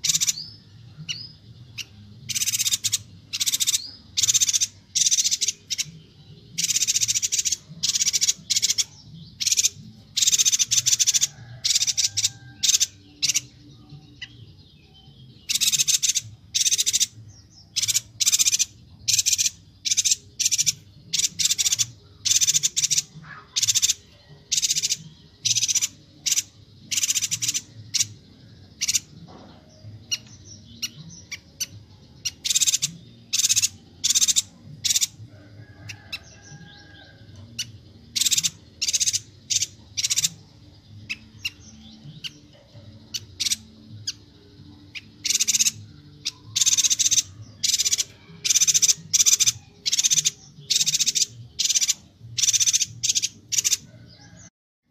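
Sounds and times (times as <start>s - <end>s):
bird high chattering calls: 0.0s - 13.5s, 15.4s - 54.5s.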